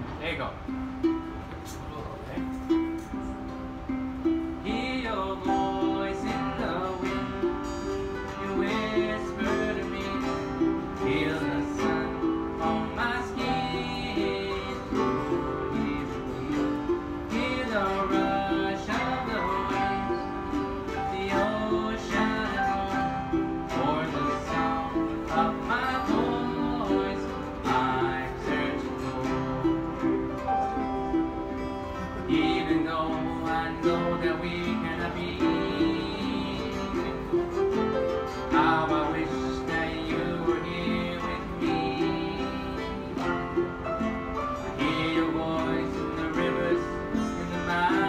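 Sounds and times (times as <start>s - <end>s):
strummed guitar: 0.0s - 48.0s
ukulele: 0.0s - 48.0s
piano: 1.0s - 48.0s.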